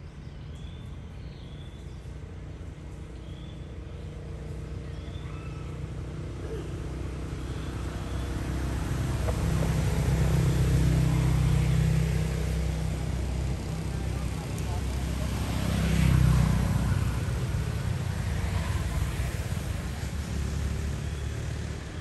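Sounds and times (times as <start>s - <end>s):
vehicle engine humming: 2.0s - 22.0s.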